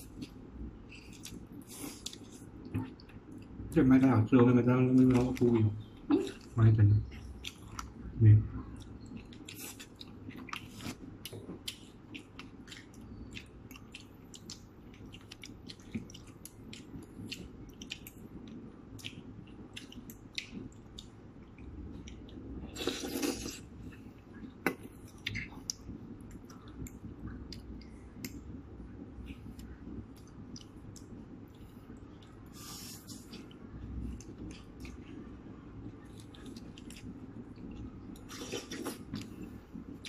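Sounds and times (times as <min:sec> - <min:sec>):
chewing food: 0:00.0 - 0:03.8, 0:04.9 - 0:08.0, 0:08.6 - 0:28.6, 0:29.2 - 0:40.0.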